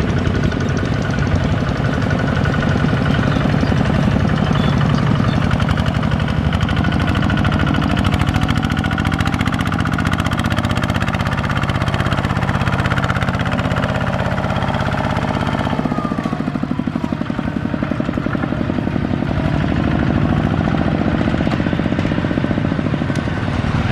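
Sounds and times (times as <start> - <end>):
diesel engine chugging: 0.0 - 23.9.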